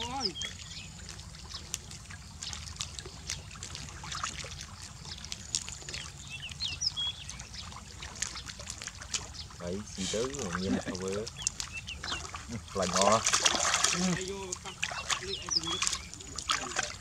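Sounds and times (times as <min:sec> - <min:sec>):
small wet clicks and splashes: 0:00.0 - 0:17.0
water dripping into river: 0:00.0 - 0:17.0.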